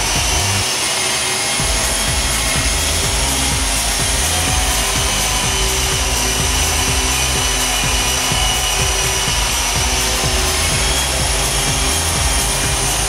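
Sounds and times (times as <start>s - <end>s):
electric motors whining: 0.0s - 13.0s
rotors whirring: 0.0s - 13.0s.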